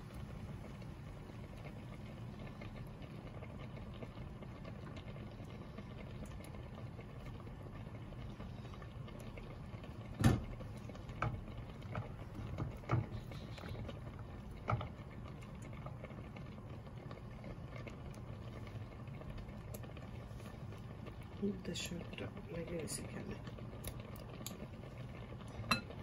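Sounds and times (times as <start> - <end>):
stove hum: 0.0 - 26.0.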